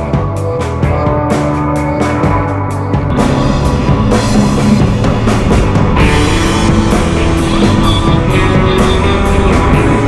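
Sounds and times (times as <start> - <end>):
rock music: 0.0 - 10.0
steady drum beat: 0.0 - 10.0.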